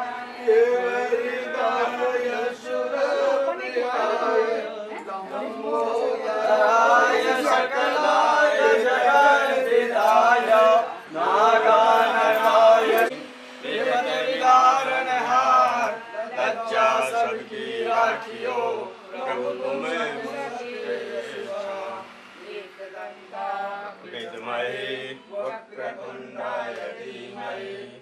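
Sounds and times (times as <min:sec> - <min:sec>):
men chanting together: 0:00.0 - 0:28.0.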